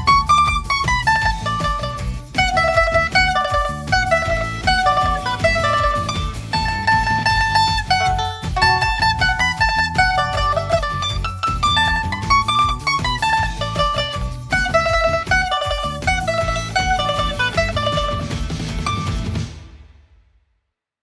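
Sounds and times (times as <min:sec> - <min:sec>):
mandolins plucking a melody: 0:00.0 - 0:19.6.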